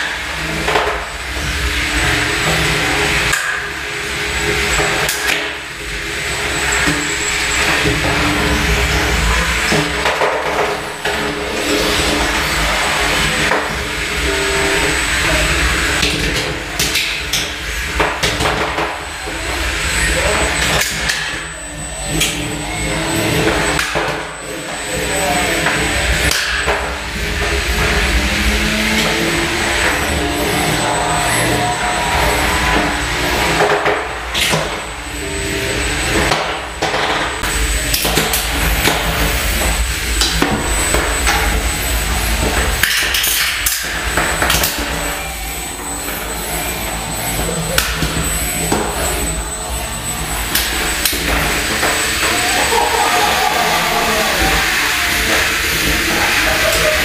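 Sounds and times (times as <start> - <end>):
robot motors whirring: 0.0 - 57.0
steady mechanical noise: 0.0 - 57.0.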